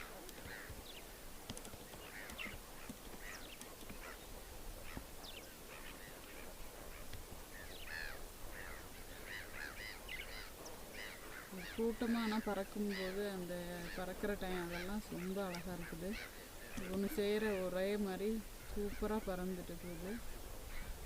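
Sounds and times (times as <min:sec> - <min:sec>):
flamingos calling: 0:00.0 - 0:21.0.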